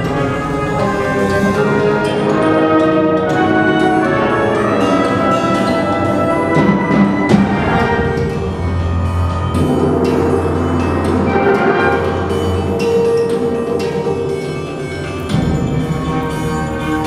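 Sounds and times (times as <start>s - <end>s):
wind band playing held chords: 0.0s - 17.0s.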